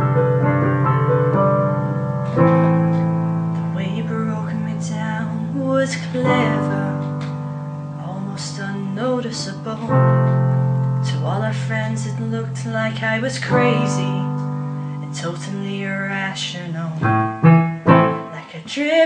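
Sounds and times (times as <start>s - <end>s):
background music with held chords: 0.0s - 15.5s.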